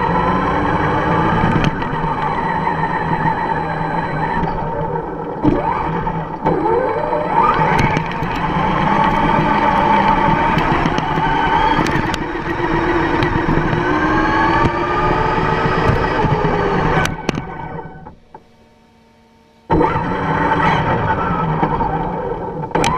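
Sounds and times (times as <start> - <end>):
tyres rumbling: 0.0 - 18.6
rc truck motor and gears whining: 0.0 - 22.9.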